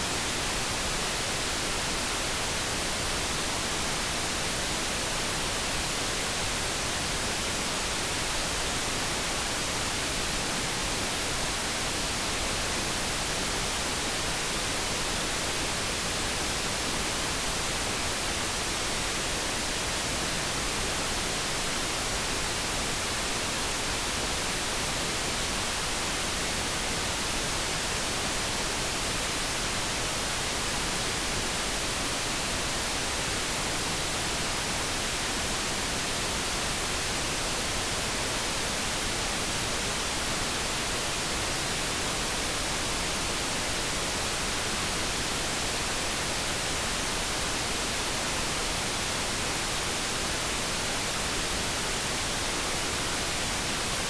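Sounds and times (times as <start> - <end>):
brown noise hiss: 0.0 - 54.0.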